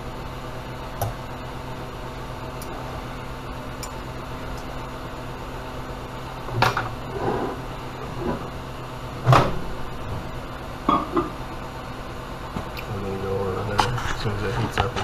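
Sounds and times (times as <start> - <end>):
appliance humming and hissing: 0.0 - 15.0.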